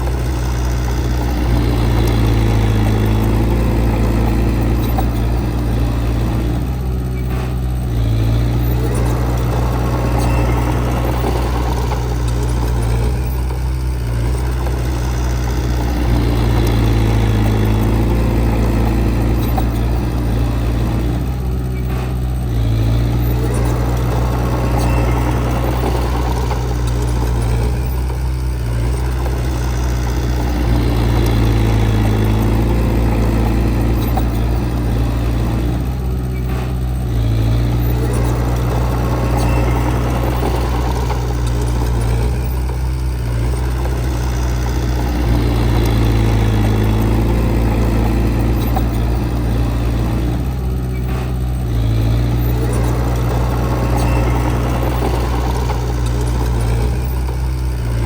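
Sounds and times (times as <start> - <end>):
heavy machine diesel engine: 0.0 - 58.0.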